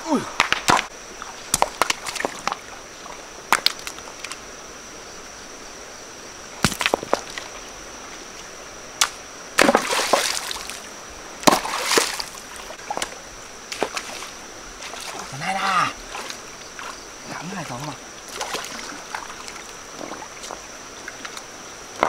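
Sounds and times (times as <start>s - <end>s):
water splashing and sloshing: 0.0s - 4.6s, 6.6s - 22.0s.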